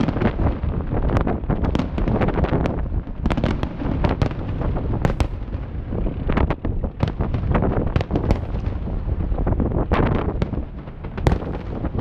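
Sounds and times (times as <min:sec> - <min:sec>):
continuous low rumble: 0:00.0 - 0:12.0
fireworks bangs and cracks: 0:00.0 - 0:12.0.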